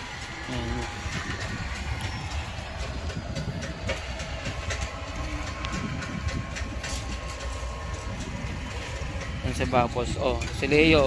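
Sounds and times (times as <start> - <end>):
construction clicks and clanks: 0.0 - 11.0
motor running with low rumble: 0.0 - 11.0.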